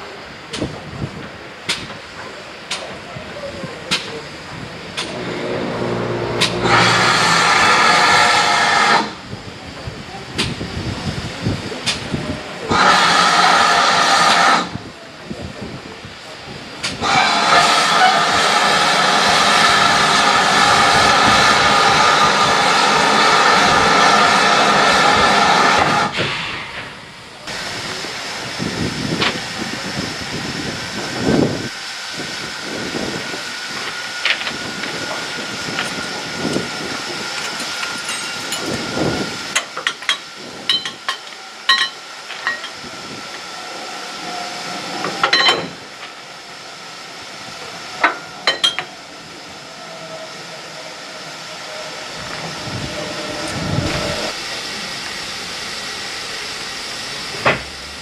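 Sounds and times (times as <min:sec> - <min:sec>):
loud rush of steam: 0:00.0 - 0:58.0
steam hissing: 0:00.0 - 0:58.0.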